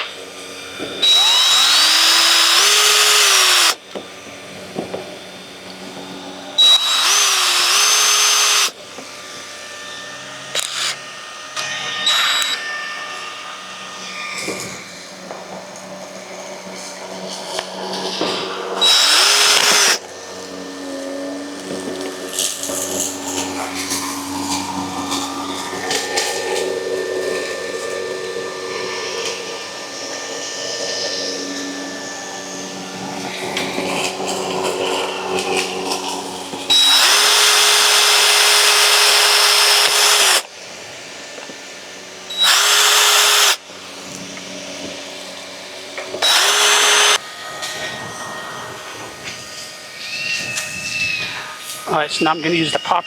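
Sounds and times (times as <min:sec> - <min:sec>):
power drill boring: 0:00.0 - 0:53.0.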